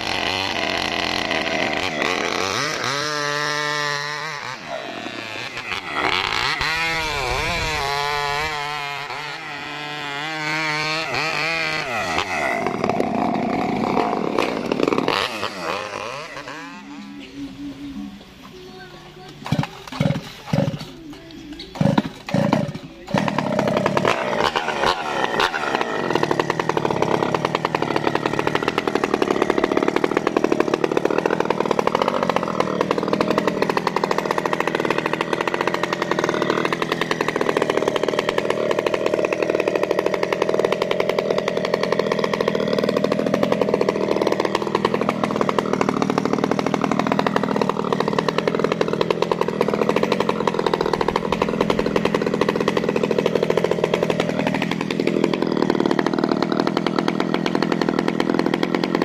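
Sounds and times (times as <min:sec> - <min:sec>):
chainsaw revving: 0:00.0 - 0:59.0
chainsaw sawing through wood: 0:00.0 - 0:59.0.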